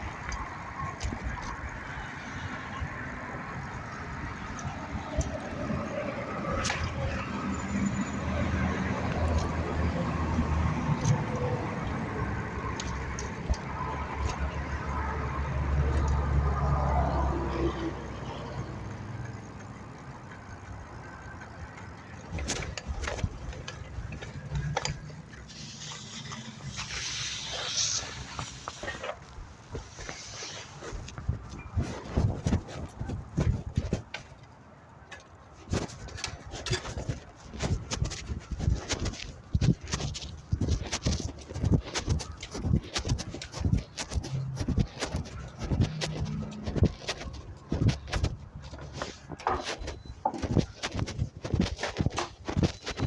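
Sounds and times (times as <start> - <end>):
vehicle passing: 0.0 - 32.0, 40.0 - 50.7
street traffic rumble: 0.0 - 53.0.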